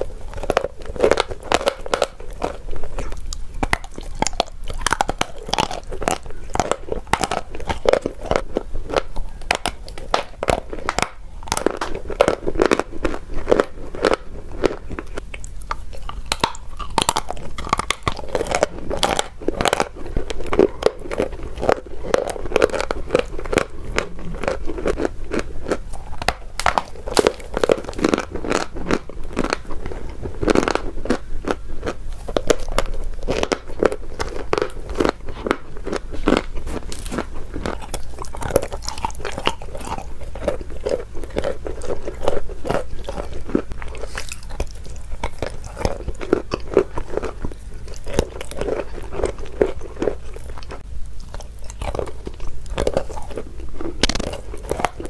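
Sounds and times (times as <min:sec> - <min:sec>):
chalk crunching while chewed: 0:00.0 - 0:55.0.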